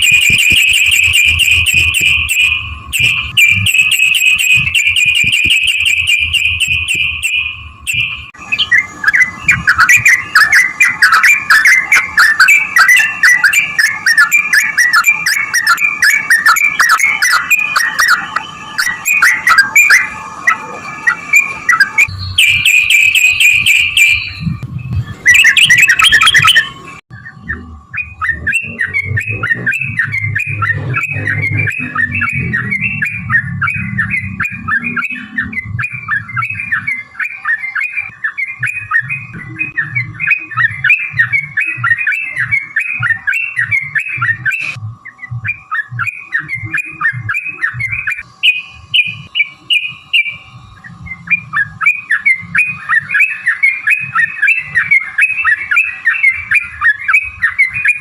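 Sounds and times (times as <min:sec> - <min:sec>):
bulbul singing chattering notes: 0:00.0 - 0:58.0.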